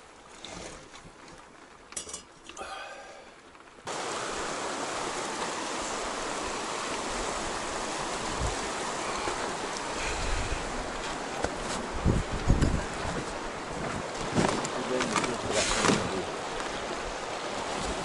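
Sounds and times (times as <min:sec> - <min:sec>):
river rushing over rapids: 0:02.6 - 0:18.0.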